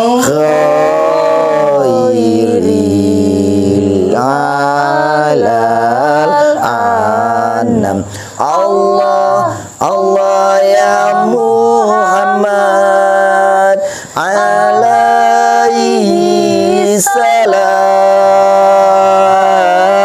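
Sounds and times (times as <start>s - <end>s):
wordless chant-like singing: 0.0s - 20.0s.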